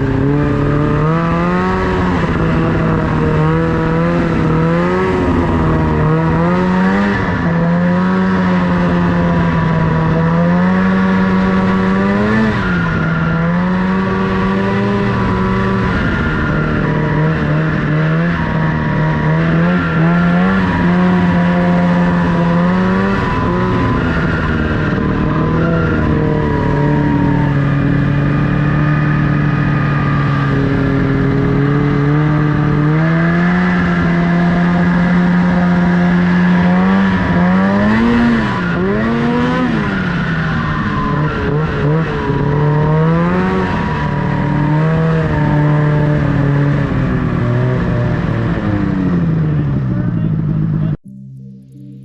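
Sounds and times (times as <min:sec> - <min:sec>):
snowmobile engine running: 0:00.0 - 0:52.0.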